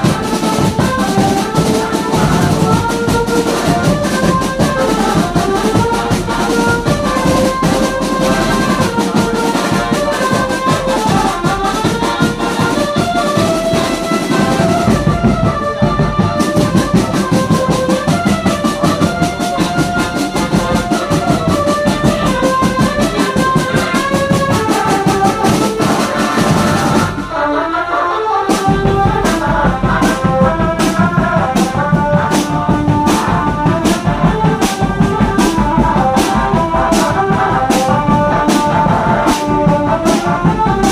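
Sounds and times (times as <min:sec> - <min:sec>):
steady drumming: 0:00.0 - 0:27.6, 0:28.4 - 0:40.9
brass band melody: 0:00.0 - 0:40.9.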